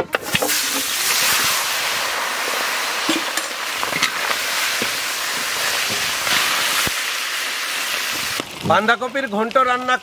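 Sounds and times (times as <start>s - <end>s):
oil popping and crackling: 0.1s - 10.0s
fish frying in oil: 0.2s - 10.0s.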